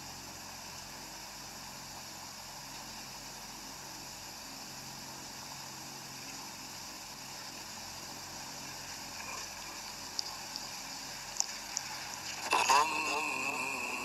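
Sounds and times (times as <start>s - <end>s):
faint low hum: 0.0s - 14.0s
steady background hiss: 0.0s - 14.0s.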